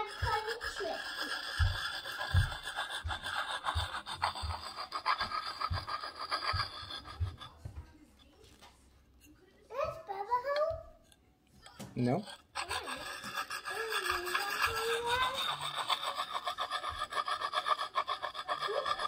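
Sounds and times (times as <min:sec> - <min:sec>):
sharpening stone rasping on hatchet: 0:00.0 - 0:07.7, 0:11.0 - 0:19.0.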